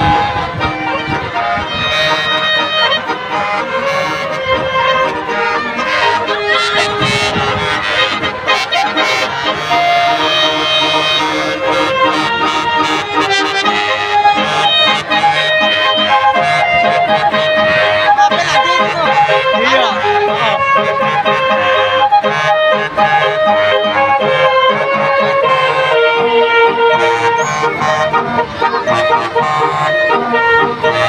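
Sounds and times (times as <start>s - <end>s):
loud music with reedy melody: 0.0s - 31.0s.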